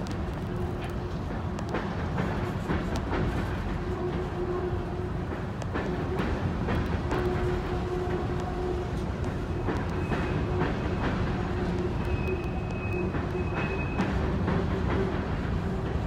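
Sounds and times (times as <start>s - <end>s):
steel wheels rumbling on rail: 0.0s - 16.0s
wheels clicking over rail joints: 0.0s - 16.0s.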